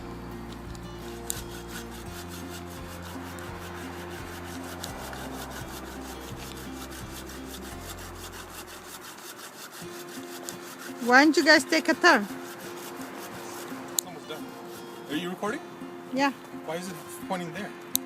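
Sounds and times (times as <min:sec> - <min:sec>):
saw cutting through wood: 0:00.0 - 0:15.4.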